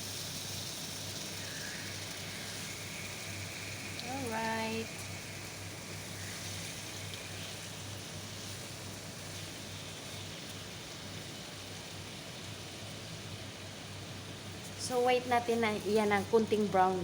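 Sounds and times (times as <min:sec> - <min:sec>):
chicken sizzling in a pan: 0:00.0 - 0:17.0
steady low hum: 0:00.9 - 0:17.0.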